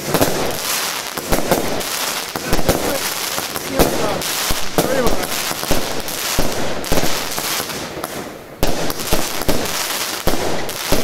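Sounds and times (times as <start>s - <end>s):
crackling firework stars: 0.0s - 11.0s
firework shots and bangs: 0.0s - 11.0s.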